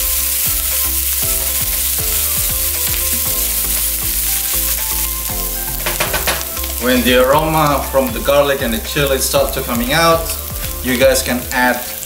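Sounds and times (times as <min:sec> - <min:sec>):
background music with beat: 0:00.0 - 0:12.0
food sizzling in frying pan: 0:00.0 - 0:12.0.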